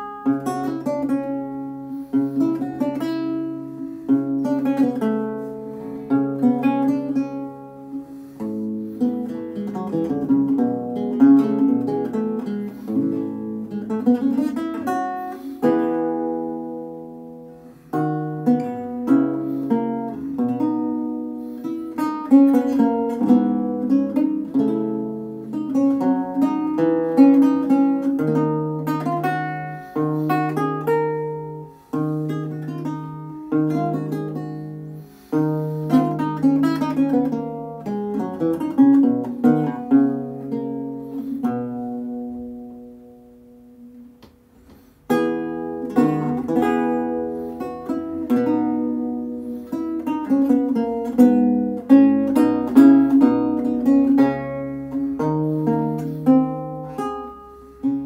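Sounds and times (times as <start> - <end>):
solo lute playing: 0.0 - 58.0.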